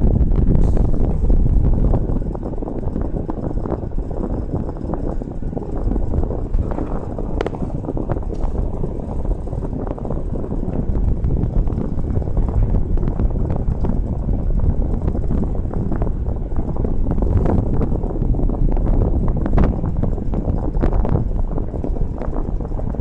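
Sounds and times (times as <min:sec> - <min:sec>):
old car engine rumbling: 0:00.0 - 0:23.0.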